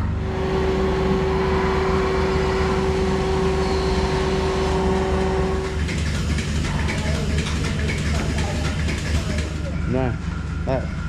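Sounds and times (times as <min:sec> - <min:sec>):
low hum: 0:00.0 - 0:11.0
machinery motor whine: 0:00.0 - 0:11.0.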